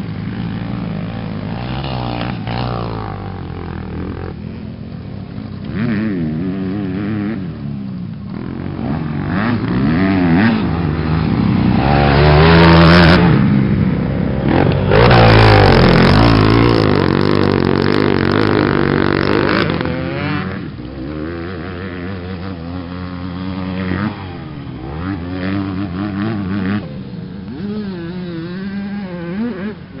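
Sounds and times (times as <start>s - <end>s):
motorbike engines revving: 0.0s - 30.0s.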